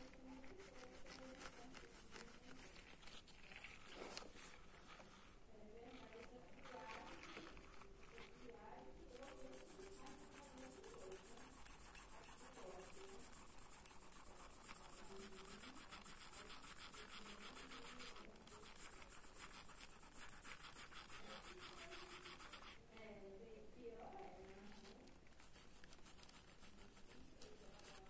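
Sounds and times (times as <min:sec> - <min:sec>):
pencil scratching on paper: 0:00.0 - 0:28.0.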